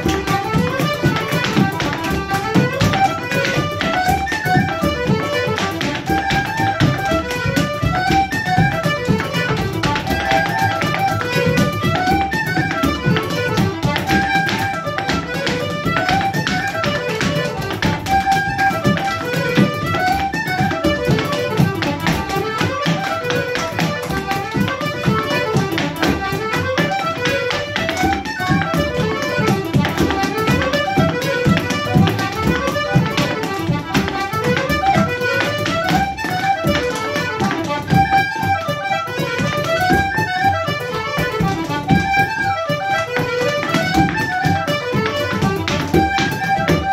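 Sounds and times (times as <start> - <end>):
dancer's shoes tapping on wood: 0.0 - 46.9
folk dance tune on accordion and fiddle: 0.0 - 46.9.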